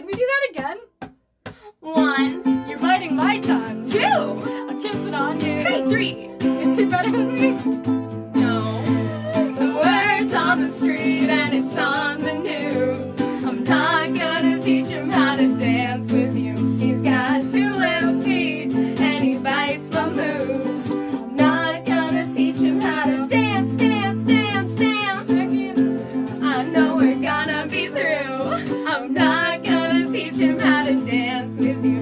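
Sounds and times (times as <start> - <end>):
woman singing: 1.8 - 7.7, 8.3 - 32.0
ukulele strumming: 1.8 - 32.0
electric guitar strumming: 2.0 - 32.0.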